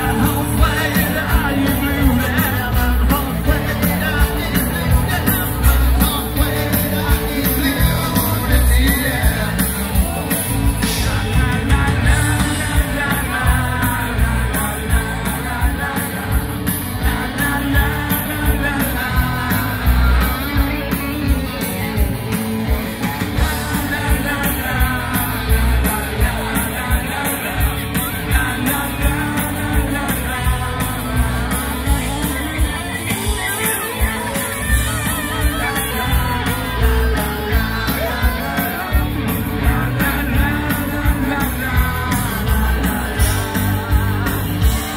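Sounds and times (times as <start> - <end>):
crowd shouting along: 0.0 - 44.9
live band with singer: 0.0 - 44.9.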